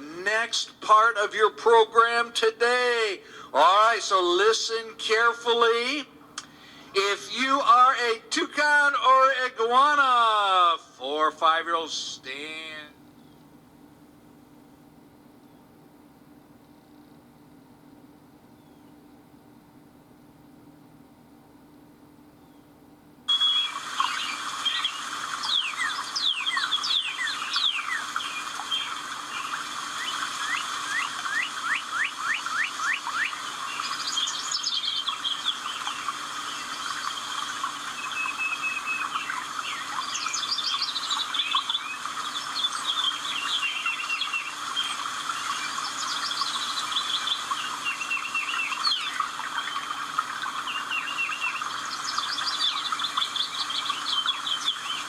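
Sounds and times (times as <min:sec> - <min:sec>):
songbirds singing: 0:02.8 - 0:13.6, 0:18.5 - 0:19.1, 0:22.3 - 0:55.0.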